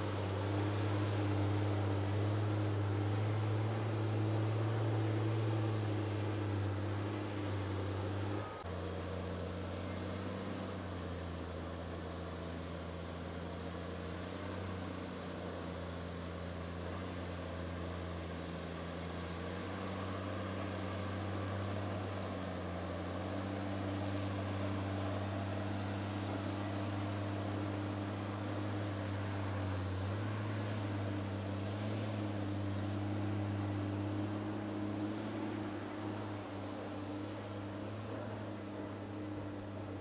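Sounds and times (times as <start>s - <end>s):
diesel engine humming: 0.0s - 40.0s.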